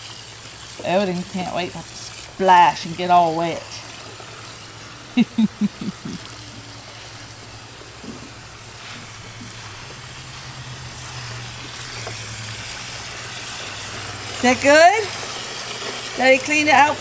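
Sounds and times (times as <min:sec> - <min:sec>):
hose water running into plastic: 0:00.0 - 0:17.0.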